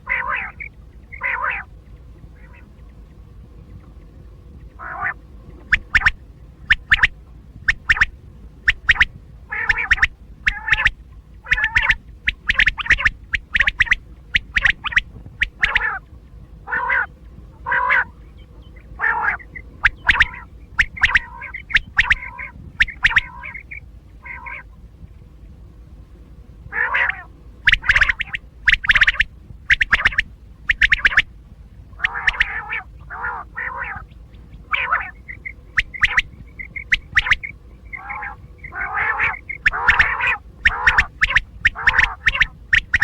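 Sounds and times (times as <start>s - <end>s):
quail calling: 0.0s - 3.1s, 4.6s - 24.9s, 26.6s - 43.0s.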